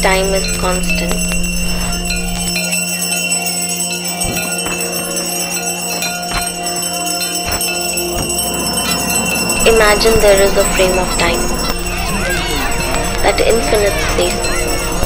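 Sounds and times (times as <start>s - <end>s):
jingling bells: 0.0s - 15.0s
low drone: 0.0s - 15.0s
sharp struck beats: 0.0s - 15.0s.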